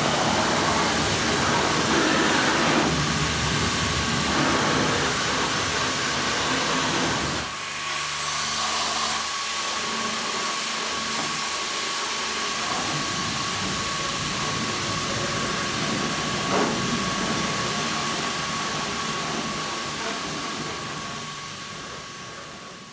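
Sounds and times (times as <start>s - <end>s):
pressure washer spraying: 0.0s - 22.2s.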